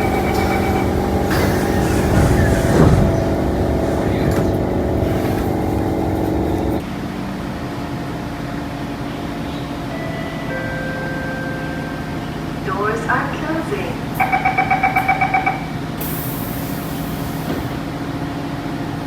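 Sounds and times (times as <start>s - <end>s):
train electrical hum and whine: 0.0s - 19.0s.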